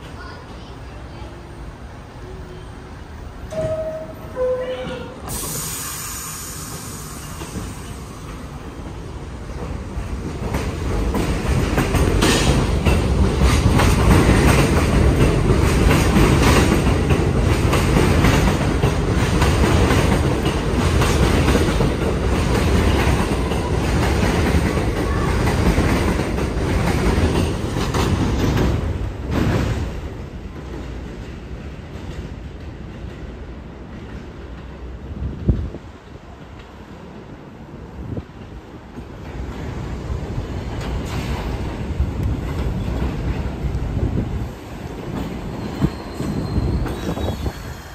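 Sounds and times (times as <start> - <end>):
subway train accelerating: 0.0 - 47.9.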